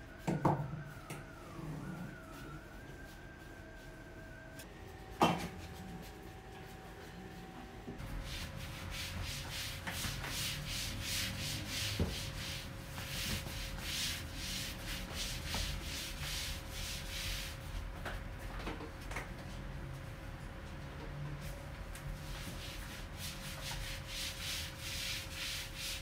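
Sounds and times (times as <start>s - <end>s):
mop swishing over floor: 1.3s - 18.0s, 21.4s - 26.0s.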